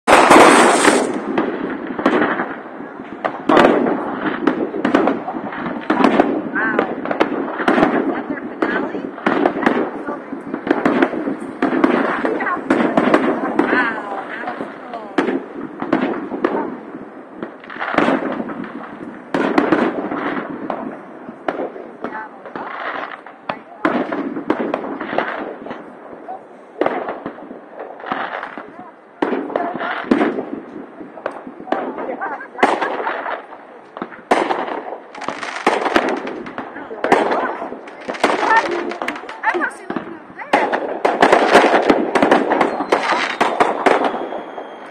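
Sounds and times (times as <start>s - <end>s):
firework booms: 0.0s - 44.9s
firework cracks and pops: 0.0s - 44.9s.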